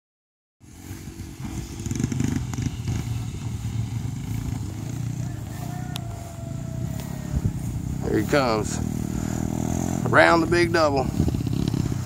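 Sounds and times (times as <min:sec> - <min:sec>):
dirt bike engine revving: 0:00.7 - 0:12.0.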